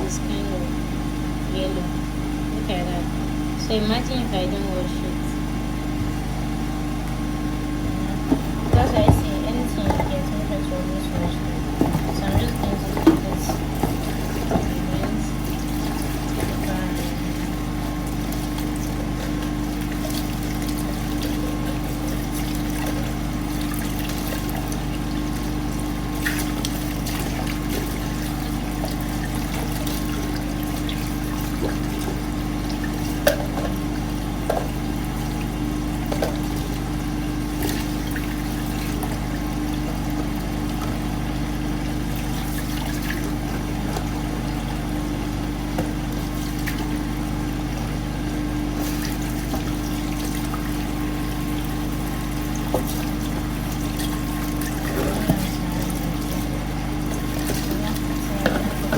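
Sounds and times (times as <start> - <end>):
water running: 1.5 - 58.9.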